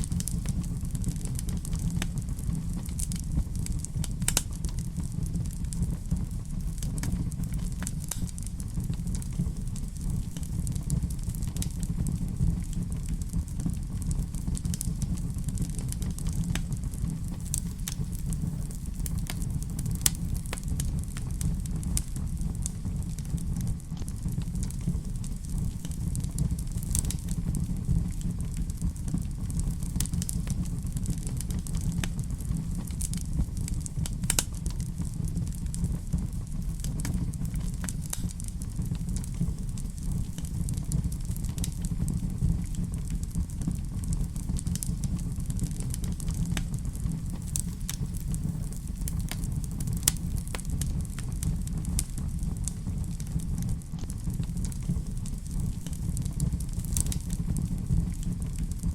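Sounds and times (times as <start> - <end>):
fire crackling in fireplace: 0.0 - 58.9.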